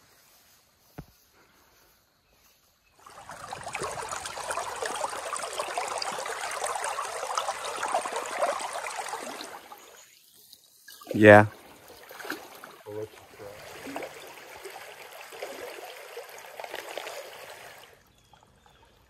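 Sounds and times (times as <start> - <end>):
creek burbling and splashing: 3.0 - 19.0.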